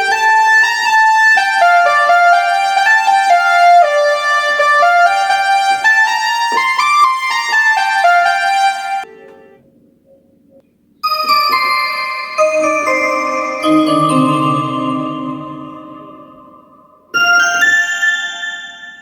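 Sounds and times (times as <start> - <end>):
keyboard melody: 0.0 - 9.1, 11.1 - 19.0.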